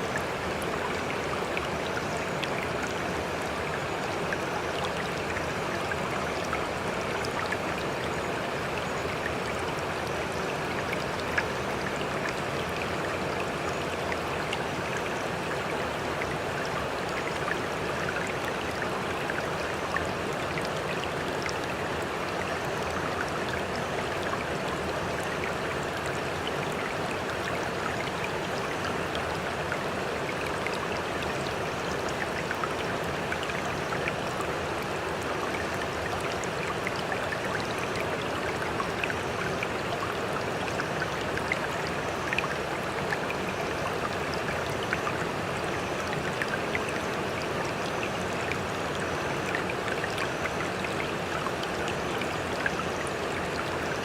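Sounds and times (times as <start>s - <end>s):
water splashes and drips: 0.0s - 54.0s.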